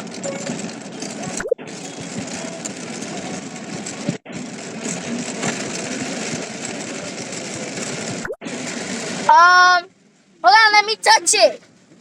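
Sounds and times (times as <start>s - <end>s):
heavy rain drumming on a car: 0.1s - 11.0s.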